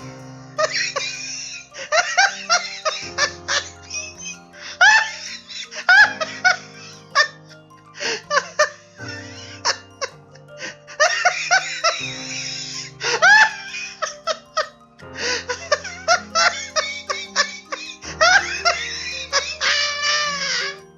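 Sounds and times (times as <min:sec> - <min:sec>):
background music: 0:00.0 - 0:20.9.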